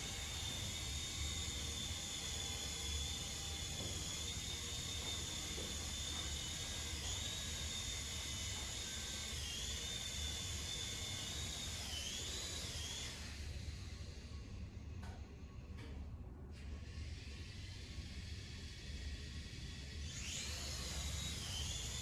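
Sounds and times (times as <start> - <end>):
toy helicopter motor whining: 0.0 - 14.5, 16.8 - 22.0.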